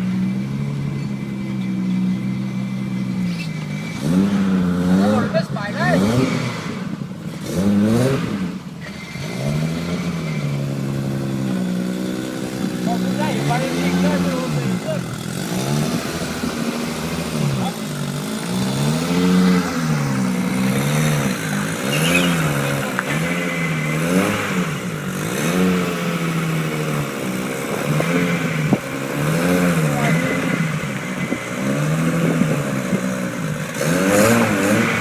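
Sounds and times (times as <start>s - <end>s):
car exhaust revving: 0.0s - 35.0s.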